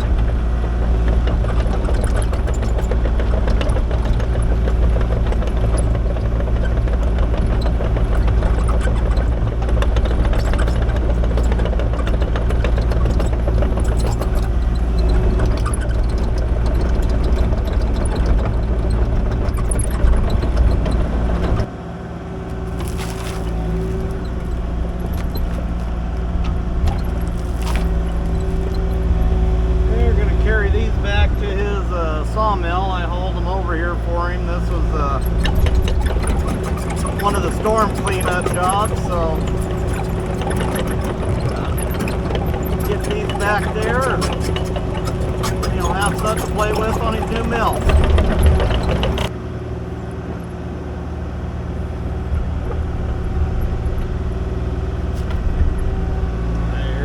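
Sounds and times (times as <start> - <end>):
excavator diesel engine under work: 0.0 - 57.0.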